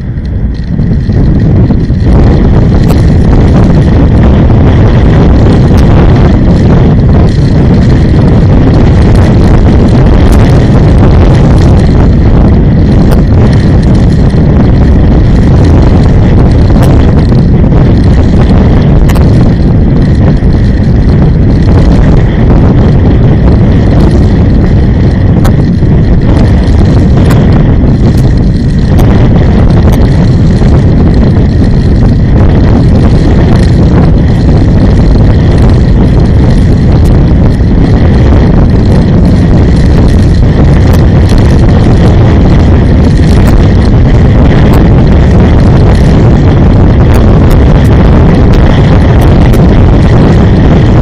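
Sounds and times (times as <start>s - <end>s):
vehicle driving rumble: 0.0s - 51.0s.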